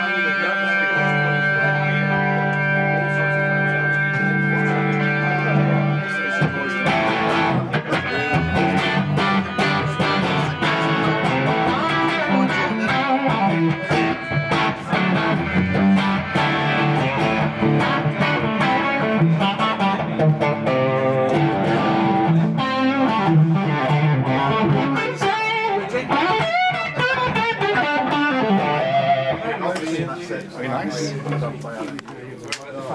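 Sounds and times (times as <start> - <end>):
electric guitar lead playing: 0.0 - 29.7.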